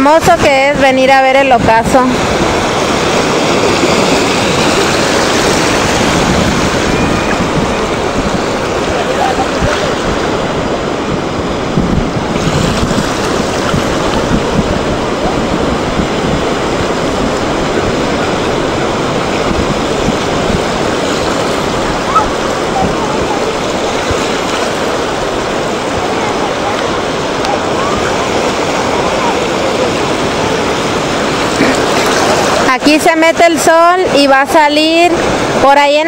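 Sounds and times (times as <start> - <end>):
waves washing onto beach: 0.0 - 36.0
wind on microphone: 0.0 - 36.0.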